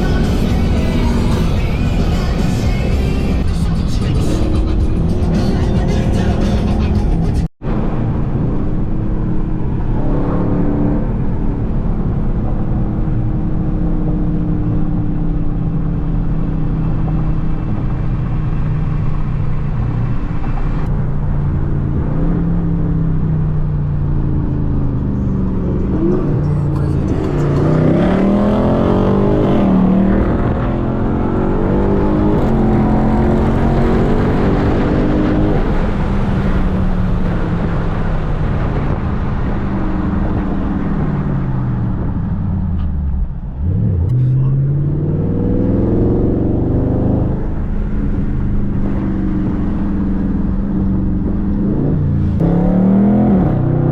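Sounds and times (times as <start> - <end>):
car engine cruising and revving: 0.0 - 53.9.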